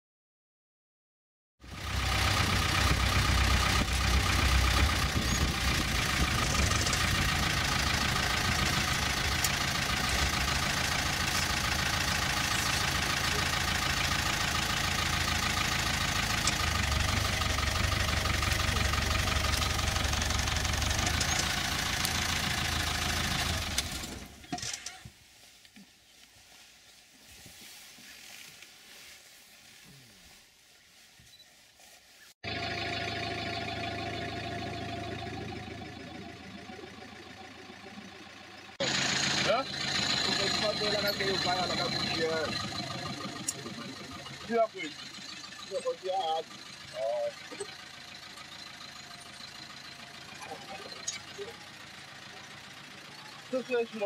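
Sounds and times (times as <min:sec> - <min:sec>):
vehicle engine running: 0:01.6 - 0:31.4, 0:32.4 - 0:54.0.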